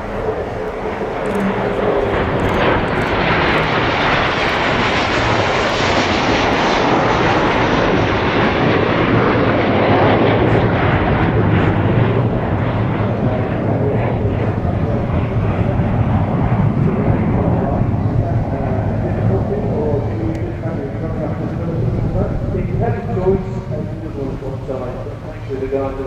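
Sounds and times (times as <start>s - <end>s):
jet aircraft flying past: 0.0s - 26.0s.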